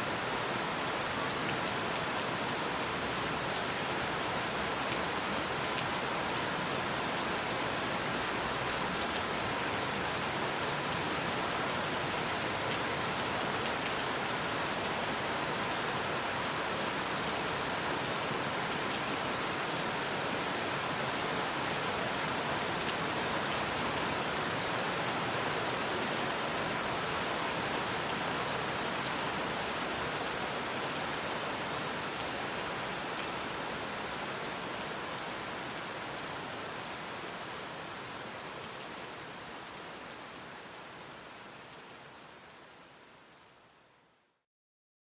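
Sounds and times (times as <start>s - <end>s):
rain on hard surfaces: 0.0s - 44.2s.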